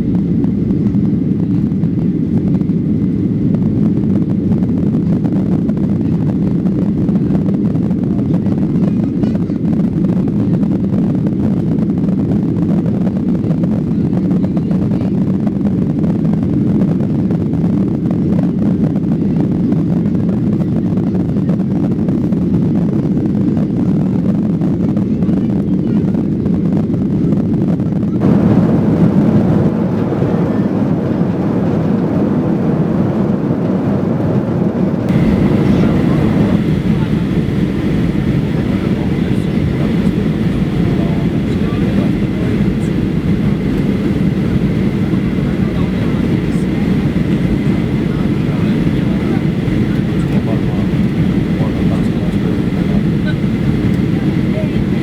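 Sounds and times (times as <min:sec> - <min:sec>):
airplane cabin engine rush: 0:00.0 - 0:55.0.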